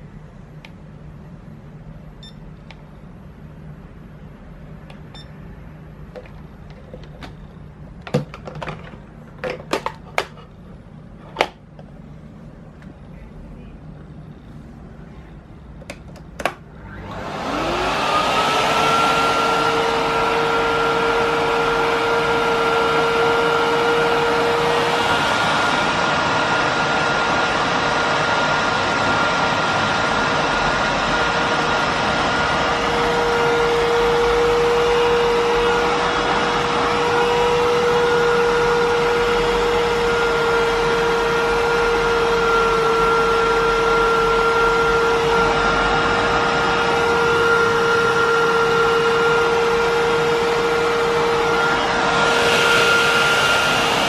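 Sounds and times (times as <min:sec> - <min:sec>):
vacuum cleaner running: 0:06.1 - 0:10.5, 0:14.4 - 0:54.0.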